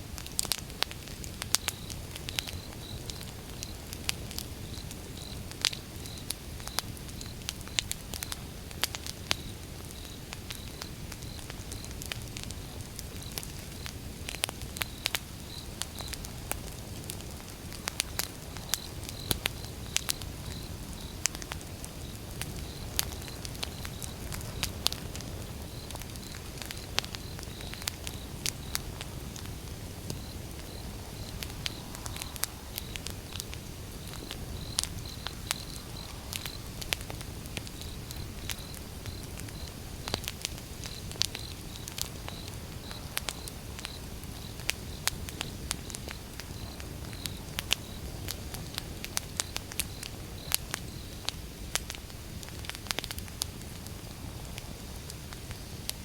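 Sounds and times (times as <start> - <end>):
burning logs crackling and popping: 0.0 - 56.0.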